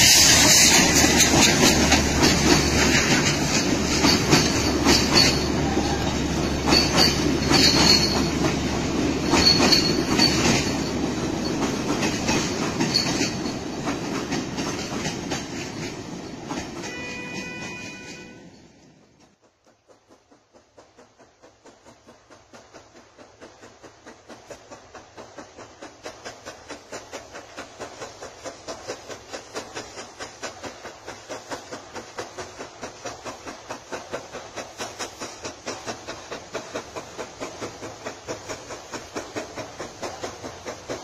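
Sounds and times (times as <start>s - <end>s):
steam locomotive chuffing: 0.0s - 41.0s.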